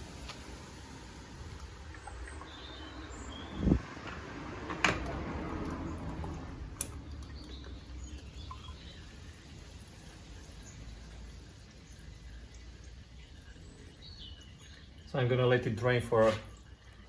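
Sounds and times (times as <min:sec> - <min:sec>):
oil trickling: 0:00.0 - 0:17.0.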